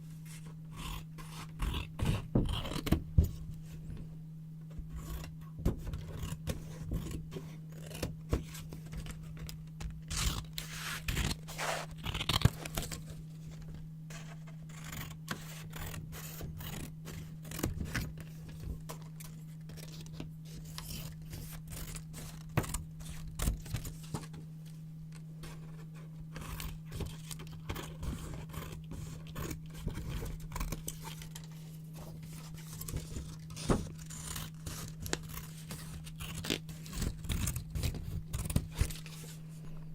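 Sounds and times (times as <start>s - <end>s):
steady low hum: 0.0s - 39.9s
scissors cutting paper: 0.4s - 3.0s, 4.9s - 13.1s, 14.1s - 24.3s, 25.5s - 39.4s.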